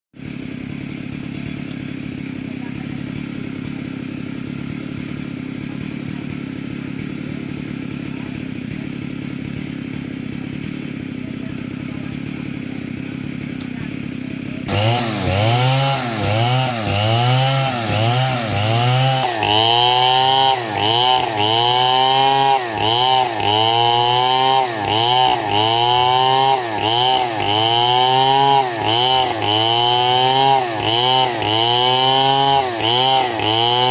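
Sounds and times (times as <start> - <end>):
chainsaw idling and revving: 0.2 - 33.9.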